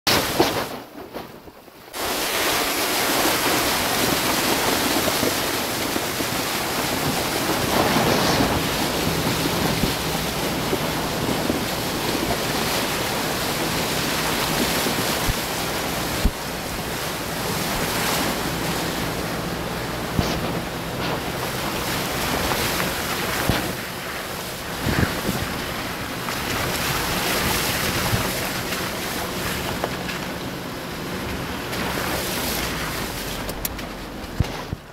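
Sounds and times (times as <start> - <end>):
wind buffeting microphone: 0.1 - 34.9
water rushing and splashing: 1.9 - 34.9.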